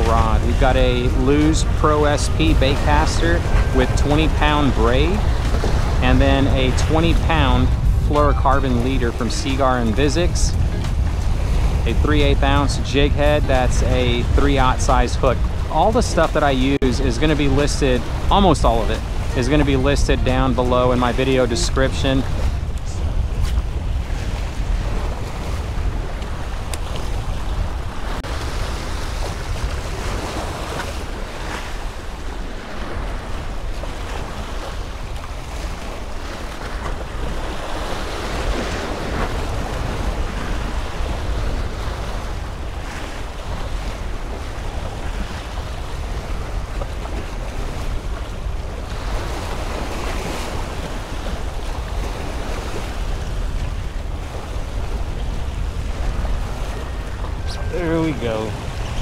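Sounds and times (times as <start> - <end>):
waves breaking against rocks: 0.0 - 59.0
wind buffeting microphone: 0.0 - 59.0.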